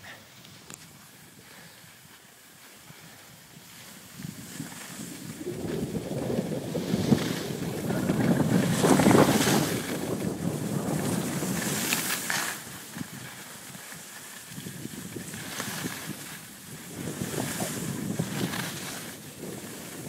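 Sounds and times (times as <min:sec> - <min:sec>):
skis scraping on snow: 0:00.0 - 0:20.0
wind rushing over microphone: 0:02.9 - 0:13.9, 0:14.5 - 0:20.0.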